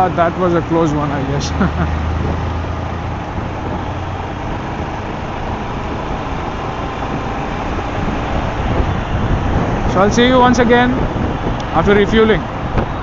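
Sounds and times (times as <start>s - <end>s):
traffic: 0.0s - 13.0s
wind and road noise: 0.0s - 13.0s.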